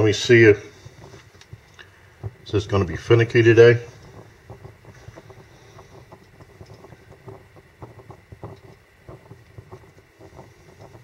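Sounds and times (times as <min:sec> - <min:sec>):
burner flame sputtering pops: 0:00.0 - 0:11.0.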